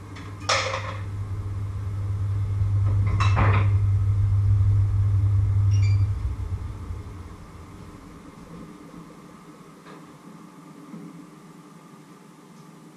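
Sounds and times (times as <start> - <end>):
low electrical hum: 0.0 - 12.9.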